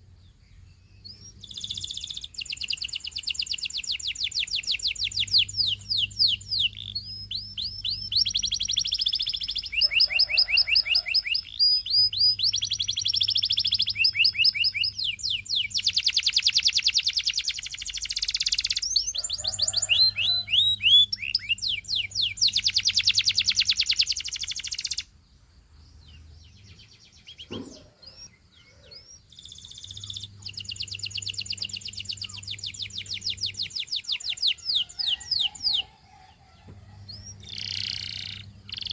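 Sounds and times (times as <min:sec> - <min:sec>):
canary singing trills: 0:00.0 - 0:38.9
faint bird chirps: 0:00.0 - 0:38.9.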